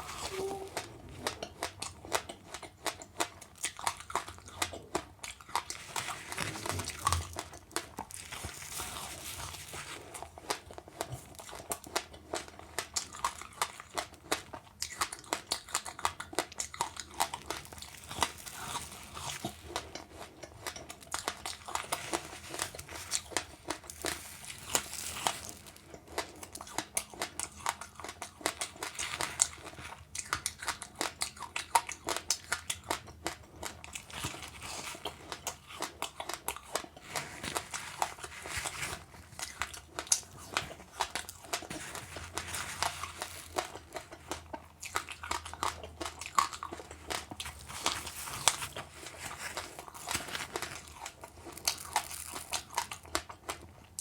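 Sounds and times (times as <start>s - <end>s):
chewing and crunching seeds: 0.0s - 54.0s.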